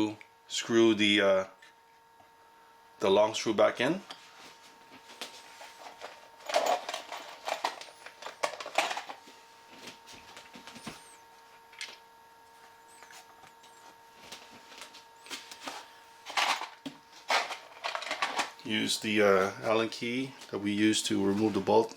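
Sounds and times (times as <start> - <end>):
faint electrical hum: 0.0 - 21.9.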